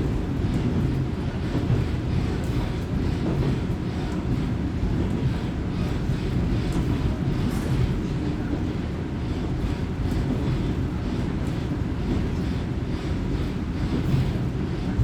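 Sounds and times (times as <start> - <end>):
railcar engine and wheel rumble: 0.0 - 15.0.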